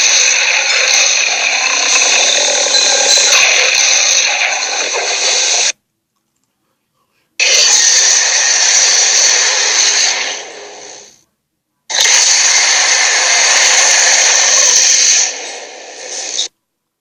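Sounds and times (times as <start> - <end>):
dinosaur roar: 0.0 - 5.7, 7.4 - 11.1, 11.9 - 16.5.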